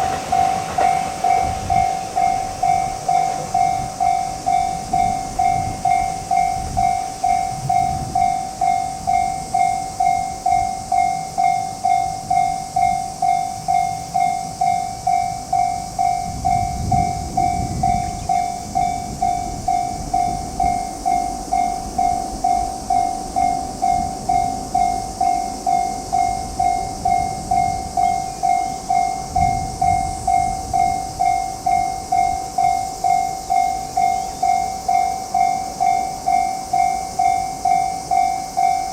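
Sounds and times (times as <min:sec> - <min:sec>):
level crossing warning bell ringing: 0:00.0 - 0:38.9.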